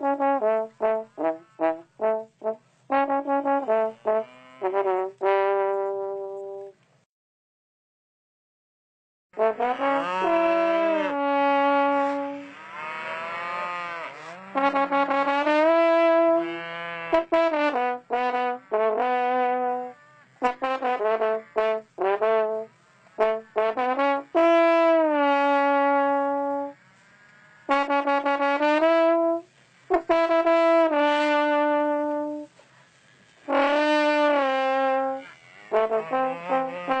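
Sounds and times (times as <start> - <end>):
trombone-like horn melody: 0.0 - 6.8, 9.4 - 27.0, 27.6 - 32.6, 33.3 - 37.0.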